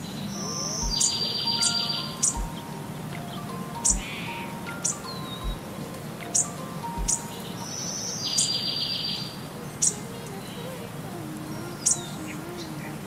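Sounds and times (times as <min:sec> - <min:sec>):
birds chirping: 0:00.0 - 0:13.0
low outdoor hum: 0:00.0 - 0:13.0
buzzy bird trill: 0:00.1 - 0:10.6.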